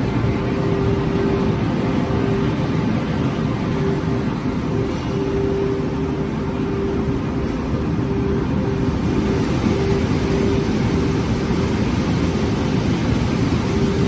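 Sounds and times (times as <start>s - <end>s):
machine whine: 0.0s - 14.0s.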